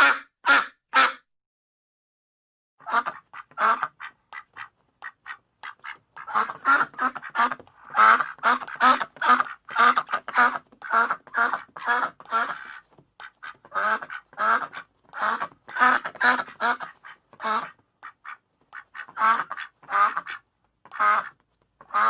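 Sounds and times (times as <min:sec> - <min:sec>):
ducks quacking: 0:00.0 - 0:01.2, 0:02.8 - 0:22.0.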